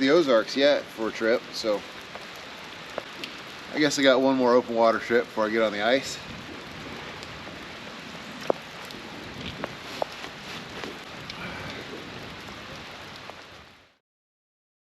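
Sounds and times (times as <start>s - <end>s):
rain drop ticks: 0.0s - 14.0s
steady rain falling: 0.0s - 14.0s.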